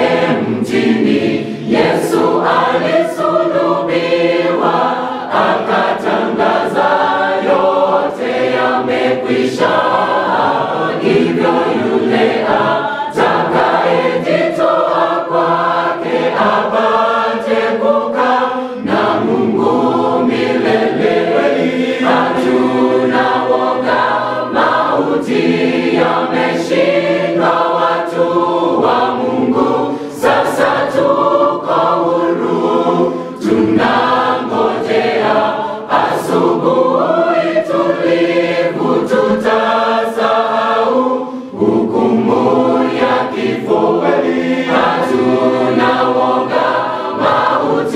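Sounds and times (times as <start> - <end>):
choir singing in harmony: 0.0 - 47.9.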